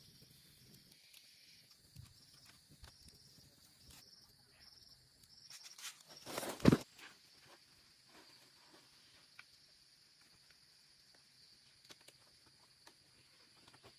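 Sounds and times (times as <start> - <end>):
insects trilling: 0.0 - 13.9.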